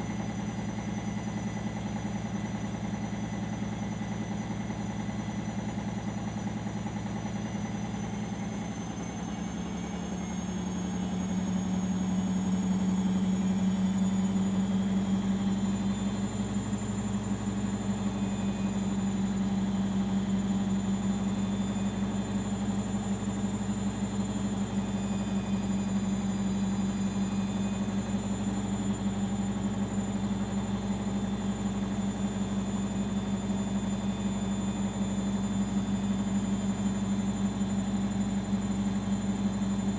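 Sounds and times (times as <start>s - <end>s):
washing machine spinning hum: 0.0s - 39.9s
high motor whine: 7.8s - 39.9s.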